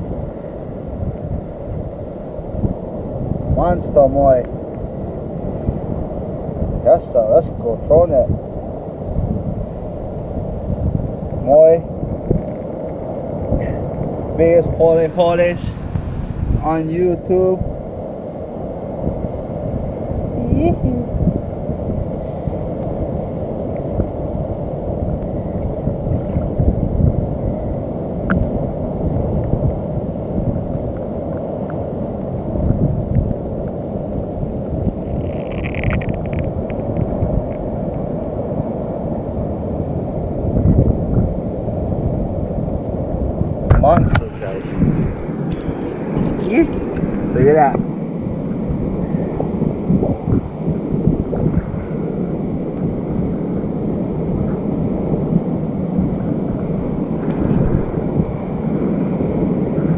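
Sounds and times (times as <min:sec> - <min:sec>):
wind on microphone: 0:00.0 - 0:59.9.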